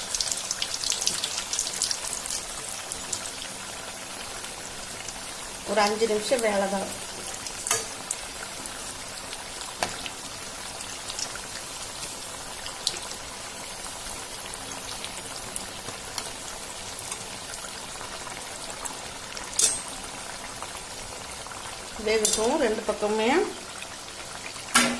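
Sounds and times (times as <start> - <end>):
food sizzling in hot oil: 0.0 - 24.9
oil popping and crackling: 0.0 - 24.9.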